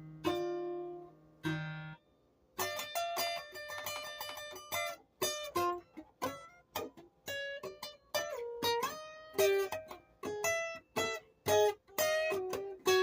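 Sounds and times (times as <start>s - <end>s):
plucked string instrument melody: 0.0s - 2.0s, 2.6s - 13.0s.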